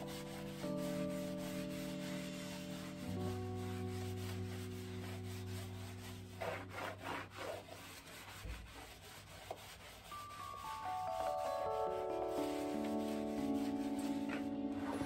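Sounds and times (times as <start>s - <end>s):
background music with held notes: 0.0s - 15.0s
hand scrubber on wet tiled floor: 0.0s - 15.0s.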